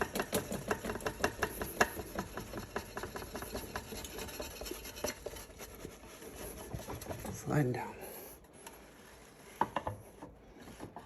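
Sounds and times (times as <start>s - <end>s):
grinder sleeve rubbing and scraping: 0.0s - 11.0s.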